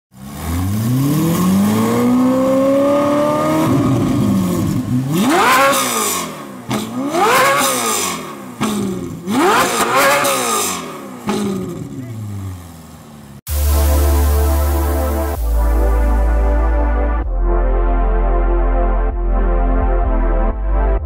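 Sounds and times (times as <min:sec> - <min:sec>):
car engine revving: 0:00.2 - 0:17.2.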